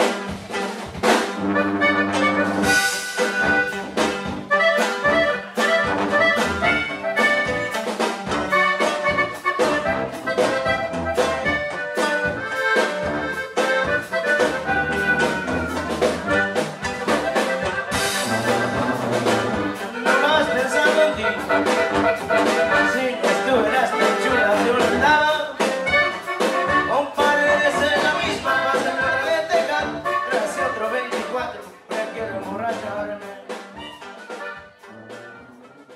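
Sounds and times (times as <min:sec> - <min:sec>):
accordion melody: 0:00.0 - 0:35.9
strummed guitar: 0:00.0 - 0:35.9
sousaphone bass line: 0:01.4 - 0:31.0.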